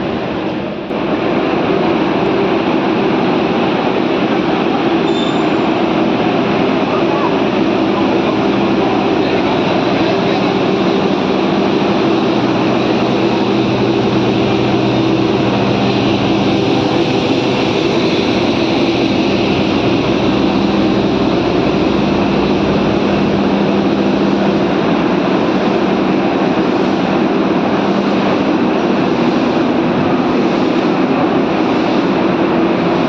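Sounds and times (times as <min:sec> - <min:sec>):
train engine running: 0:00.0 - 0:33.0.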